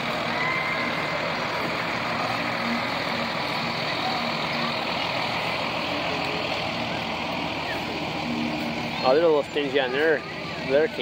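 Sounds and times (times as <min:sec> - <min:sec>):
truck diesel engine passing: 0:00.0 - 0:11.0.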